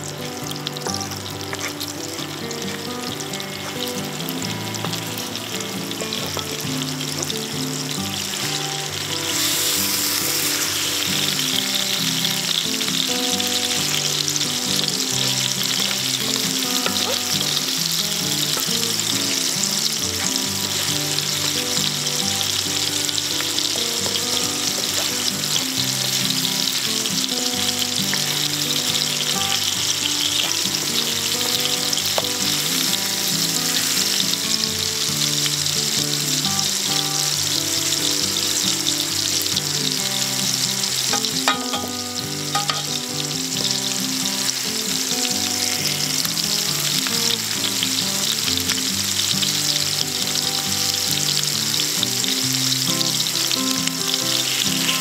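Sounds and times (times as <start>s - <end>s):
fish sizzling in a pan: 0.0s - 55.0s.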